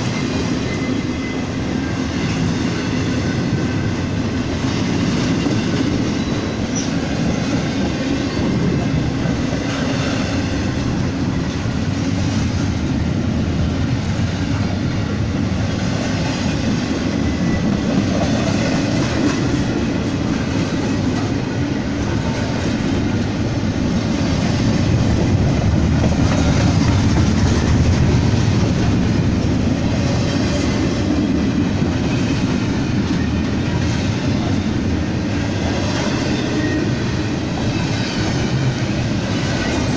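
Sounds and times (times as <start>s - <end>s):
train wheels on rail: 0.0s - 39.9s.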